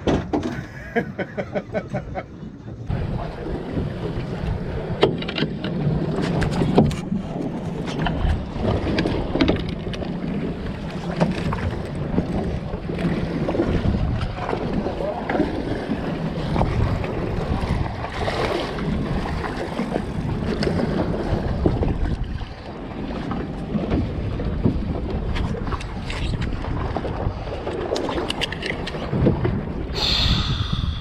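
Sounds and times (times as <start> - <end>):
water splashing against boat hull: 2.6 - 30.8
wind buffeting microphone: 2.6 - 31.0.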